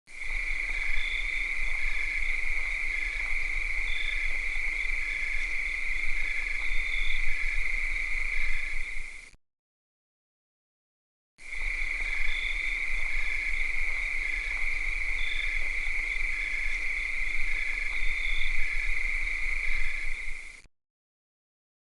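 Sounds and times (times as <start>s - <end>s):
cicadas chorus: 0.1s - 9.3s, 11.4s - 20.7s.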